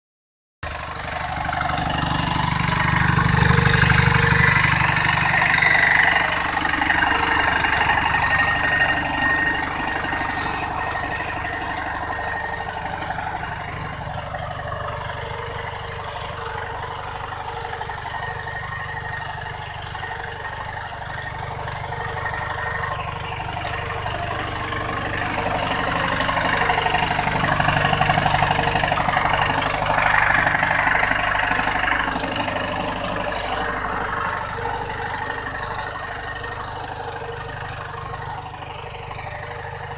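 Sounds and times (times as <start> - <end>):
tractor diesel engine under load: 0.6 - 39.9.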